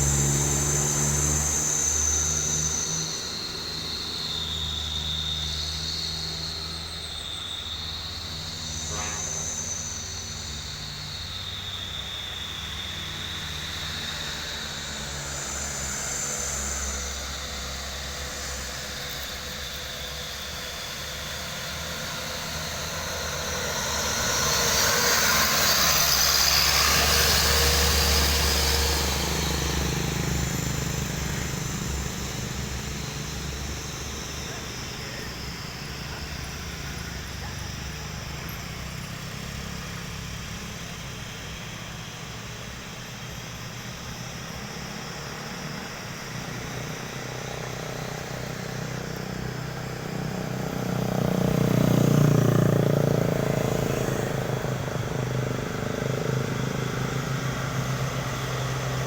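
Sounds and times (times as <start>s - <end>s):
heavy truck engines running: 0.0s - 59.0s.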